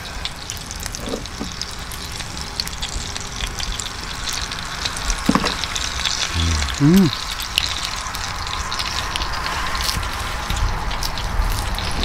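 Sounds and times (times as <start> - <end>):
pork sizzling on a griddle: 0.0 - 12.0.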